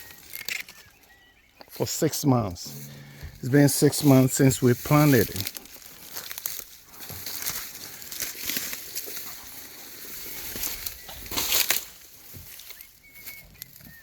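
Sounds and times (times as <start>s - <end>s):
footsteps through vegetation: 0.0s - 14.0s
grass and leaves rustling: 0.0s - 14.0s.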